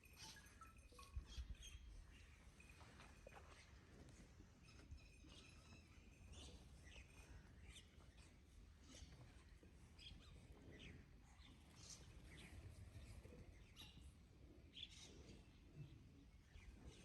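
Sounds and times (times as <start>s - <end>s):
faint bird chirps: 0.0s - 3.9s, 4.6s - 17.0s.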